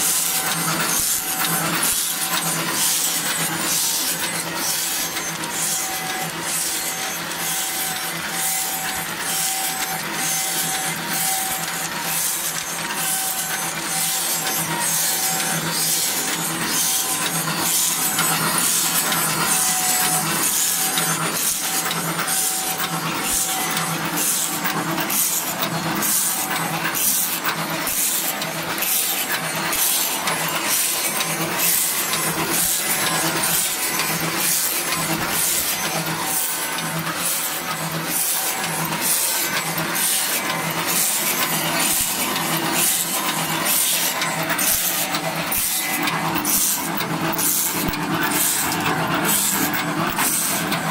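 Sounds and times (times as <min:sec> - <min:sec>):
high-pitched cutting strokes: 0:00.0 - 0:50.9
machine motor hum: 0:00.0 - 0:50.9.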